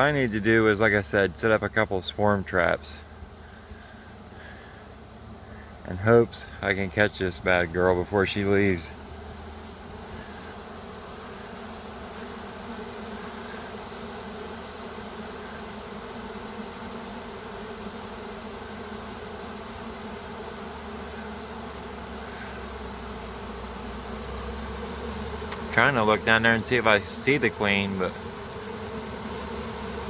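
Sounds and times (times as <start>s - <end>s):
bee swarm buzzing: 0.0s - 30.0s.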